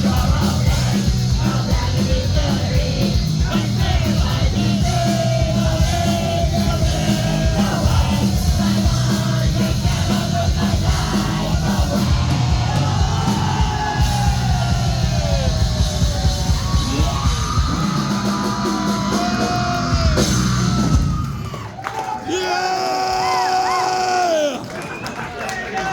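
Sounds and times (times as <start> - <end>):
heavy low drumming: 0.0 - 21.5
yelled vocals: 0.0 - 21.5
punk rock band playing live: 0.0 - 21.6.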